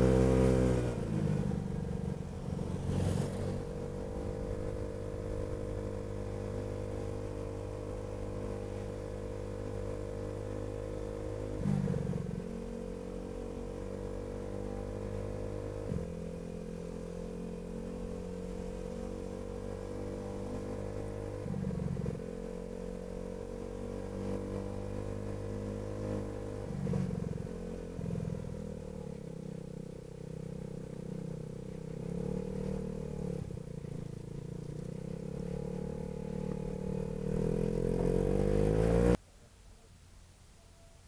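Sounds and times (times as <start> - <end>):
scooter engine running: 0.0 - 39.2.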